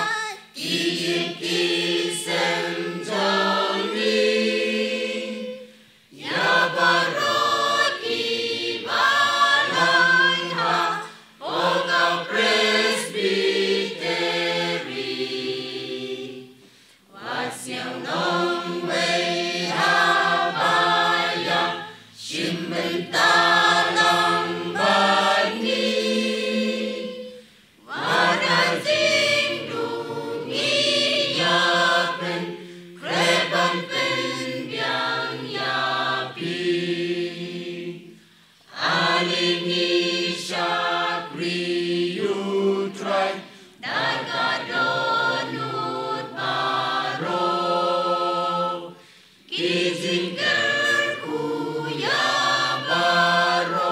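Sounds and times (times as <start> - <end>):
mixed choir singing gospel song: 0.0 - 53.9.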